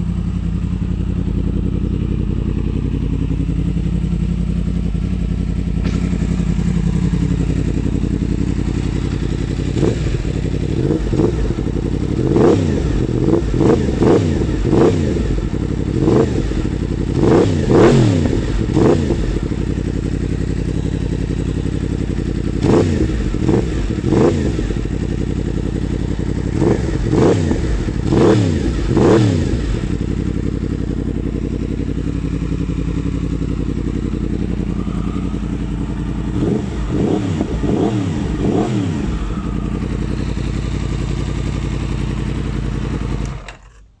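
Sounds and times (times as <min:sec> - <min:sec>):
motorcycle throttle blips: 0:00.0 - 0:43.9
motorcycle engine idling: 0:00.0 - 0:44.0.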